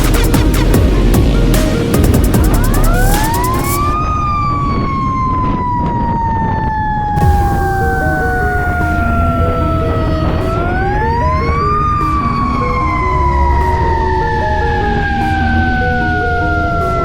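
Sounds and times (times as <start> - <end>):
siren wailing: 2.4 - 17.0.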